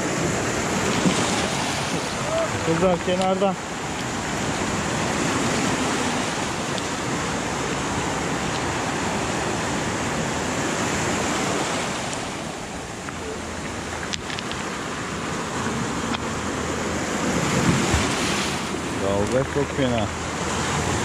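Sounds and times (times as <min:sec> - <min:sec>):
surf breaking on stony shore: 0:00.0 - 0:21.0.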